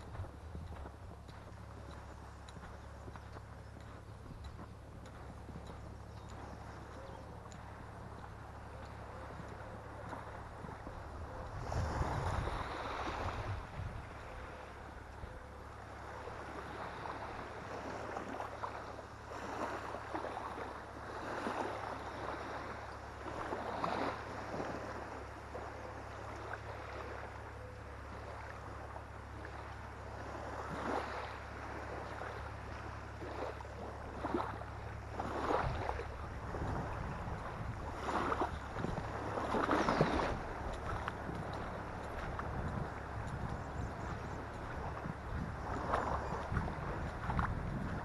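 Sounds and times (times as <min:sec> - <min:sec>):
wading through shallow water: 0:00.0 - 0:48.0
wind rumble on microphone: 0:00.0 - 0:48.0.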